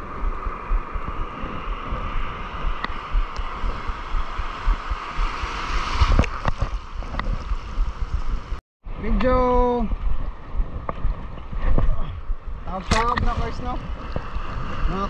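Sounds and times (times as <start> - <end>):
surf washing and rushing: 0.0 - 8.6, 9.9 - 15.0
wind buffeting microphone: 0.0 - 15.0.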